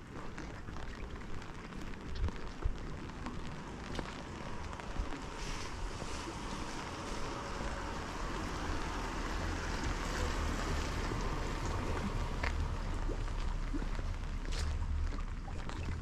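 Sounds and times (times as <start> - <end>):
low rumble: 0.0 - 16.0
rain falling: 0.0 - 16.0.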